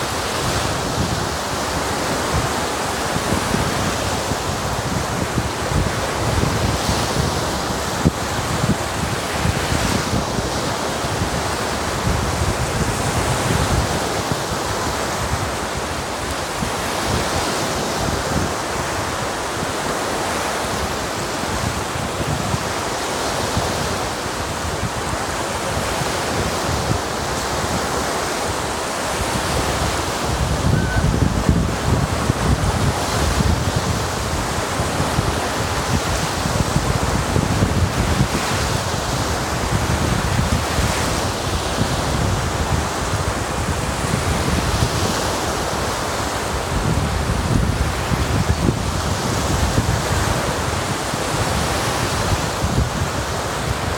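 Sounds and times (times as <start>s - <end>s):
lake waves washing onto shore: 0.0s - 53.9s
wind buffeting microphone: 0.0s - 53.9s.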